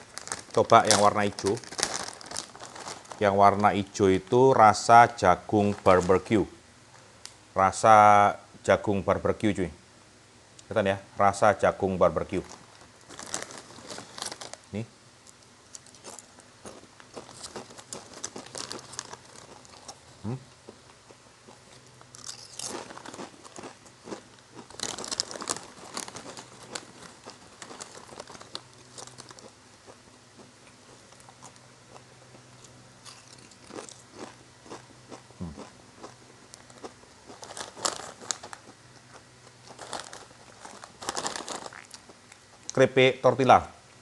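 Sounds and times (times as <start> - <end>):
chip bag crinkling: 0.0 - 4.2, 5.1 - 6.3, 12.2 - 42.8.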